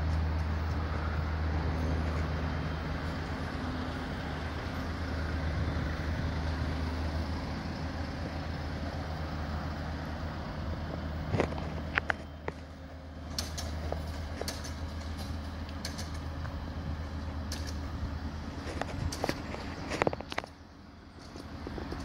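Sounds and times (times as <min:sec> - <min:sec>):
cars idling: 0:00.0 - 0:22.0
road traffic hum: 0:00.0 - 0:22.0.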